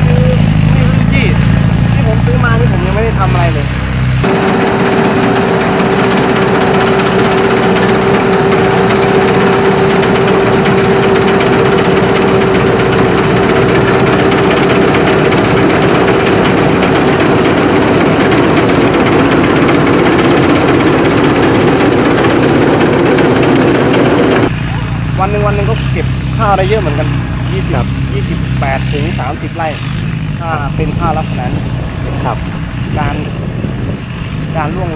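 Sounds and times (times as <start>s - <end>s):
combine harvester running: 0.0s - 34.9s
high whine: 0.0s - 34.9s.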